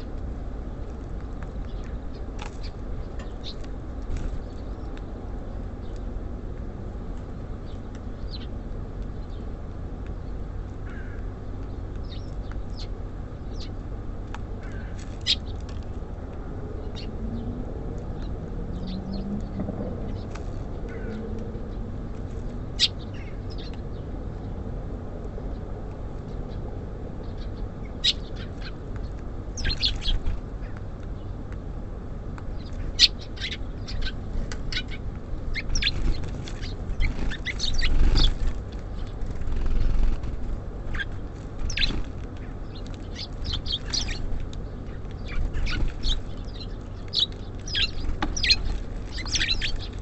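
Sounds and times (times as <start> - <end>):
birds chirping: 0.0 - 6.4, 7.0 - 16.0, 16.7 - 24.6, 25.4 - 50.0
low city rumble: 0.0 - 50.0.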